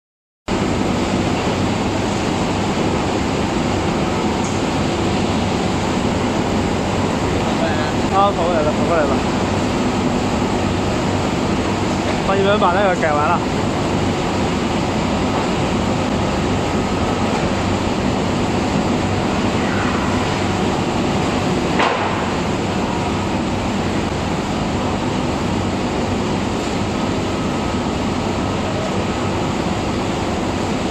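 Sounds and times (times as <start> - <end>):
extraction fans and spray air: 0.5 - 30.9
faint machine hum: 0.5 - 30.9.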